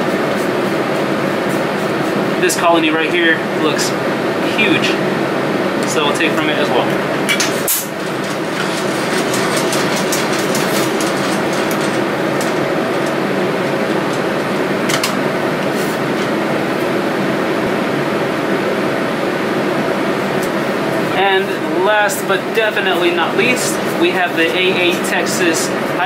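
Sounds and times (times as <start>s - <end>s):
blower fan rushing air: 0.0s - 26.0s.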